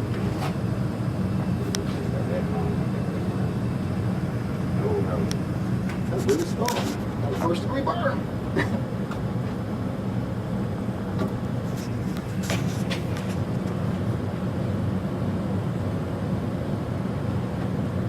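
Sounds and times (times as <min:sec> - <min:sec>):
water heaters and furnace humming: 0:00.0 - 0:18.0.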